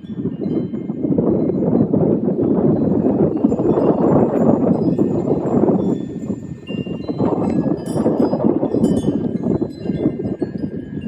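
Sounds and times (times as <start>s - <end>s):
rushing wind: 0.0s - 11.0s
wind chimes ringing: 0.0s - 11.0s.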